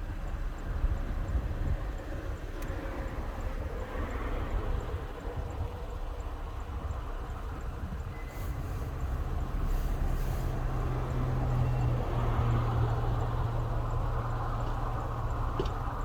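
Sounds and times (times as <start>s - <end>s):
diesel locomotive engine droning: 0.0s - 16.0s.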